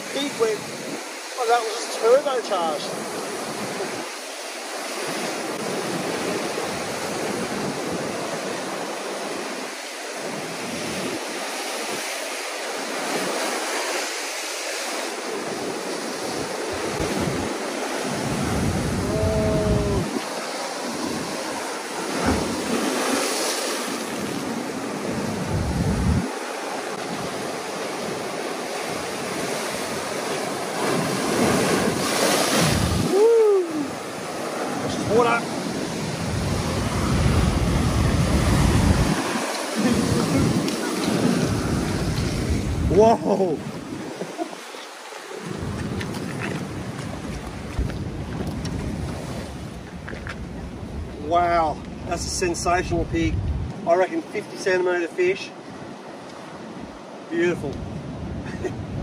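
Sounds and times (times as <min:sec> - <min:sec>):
surf breaking over rocks: 0:00.0 - 0:59.0.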